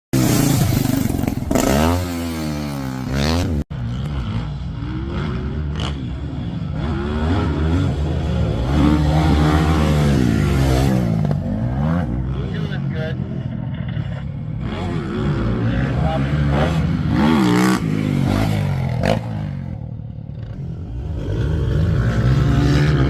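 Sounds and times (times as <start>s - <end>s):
dirt bike engine revving: 0.2s - 23.0s.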